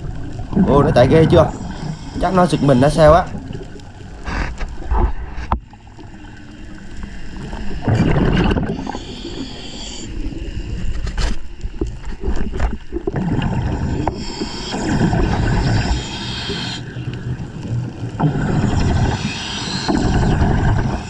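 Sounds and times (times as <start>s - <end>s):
underwater bubbles gurgling: 0.0s - 21.0s.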